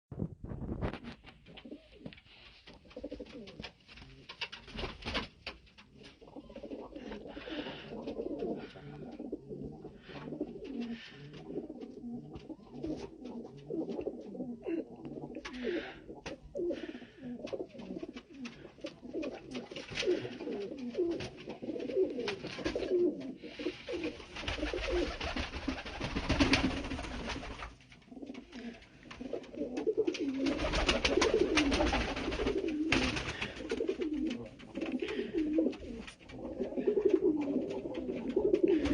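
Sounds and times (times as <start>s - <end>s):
pigeons cooing: 1.4s - 4.8s, 5.7s - 38.9s.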